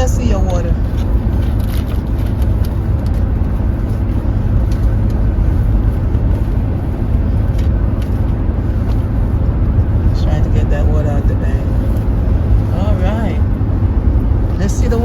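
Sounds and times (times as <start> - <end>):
car road rumble inside cabin: 0.0 - 15.0.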